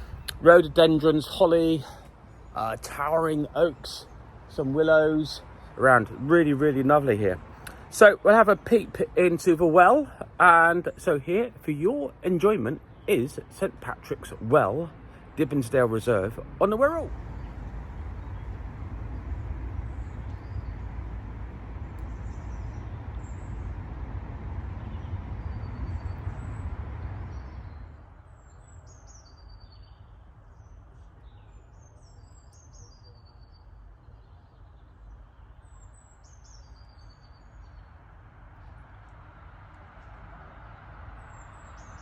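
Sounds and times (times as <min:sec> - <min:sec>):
small birds chirping: 0:00.0 - 0:24.0, 0:24.7 - 0:42.0
faint steady hum: 0:00.0 - 0:42.0.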